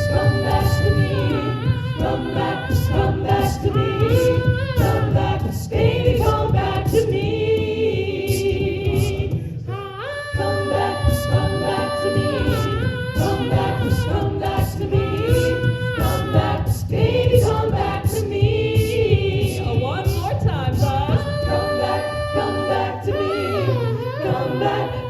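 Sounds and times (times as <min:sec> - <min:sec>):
a cappella harmony singing: 0:00.0 - 0:25.0
vocal percussion beat: 0:00.0 - 0:25.0.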